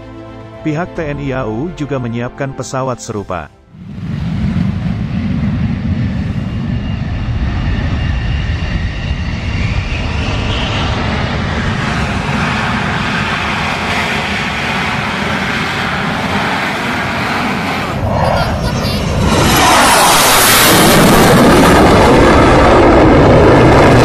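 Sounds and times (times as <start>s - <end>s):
jet roar taking off: 3.1s - 24.0s.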